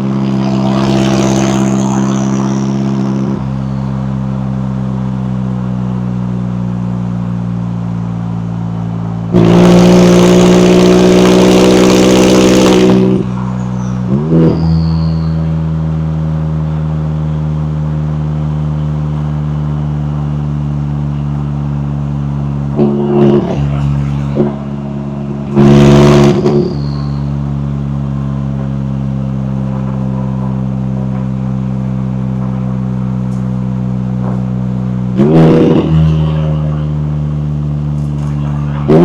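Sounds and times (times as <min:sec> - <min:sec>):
sports car engine and exhaust: 0:00.0 - 0:39.0.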